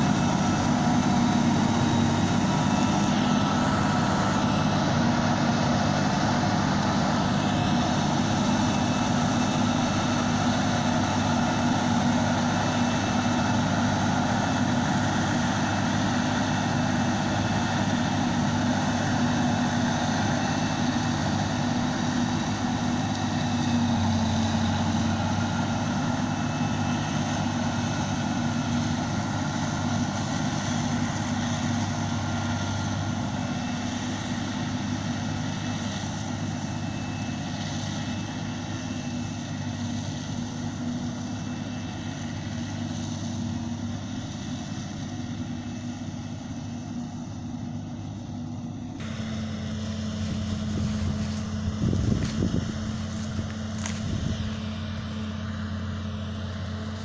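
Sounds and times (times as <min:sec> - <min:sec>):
forage harvester engine drone: 0:00.0 - 0:57.0.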